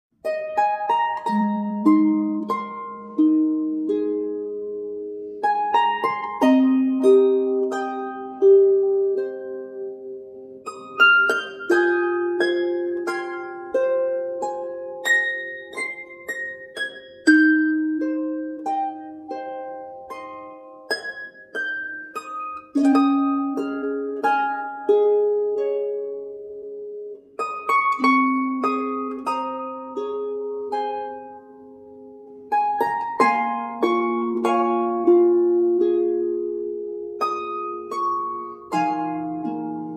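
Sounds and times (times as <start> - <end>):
plucked harp-like melody: 0.2 - 39.9.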